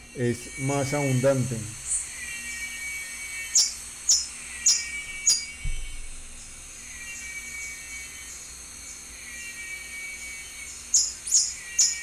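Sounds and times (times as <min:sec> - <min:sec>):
faint lower repeated bird notes: 0:00.0 - 0:12.0.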